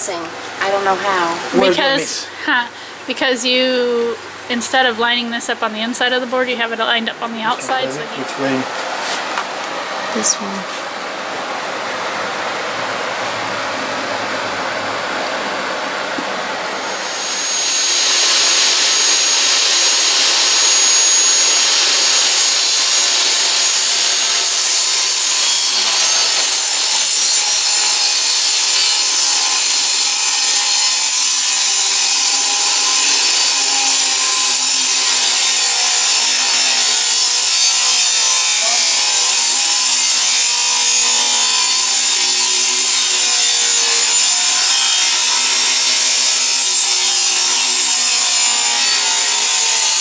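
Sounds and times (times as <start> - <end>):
power saw cutting wood: 1.4 - 2.9, 6.1 - 11.0, 13.3 - 50.0.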